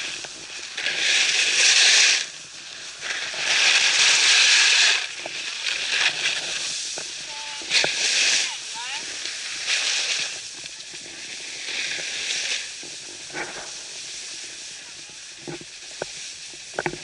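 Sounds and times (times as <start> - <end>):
snowboard sliding over snow: 0.0 - 17.0.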